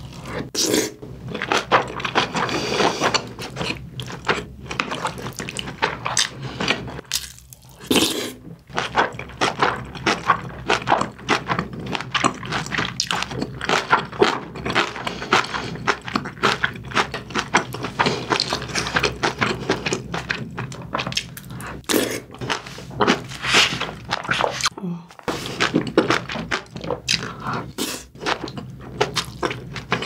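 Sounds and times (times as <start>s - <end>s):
wet chewing: 1.3s - 30.0s.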